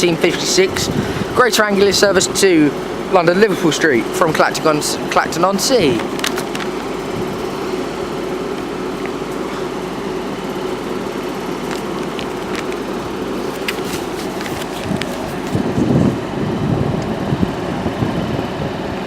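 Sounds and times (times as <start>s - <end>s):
electric train humming: 0.0s - 19.0s.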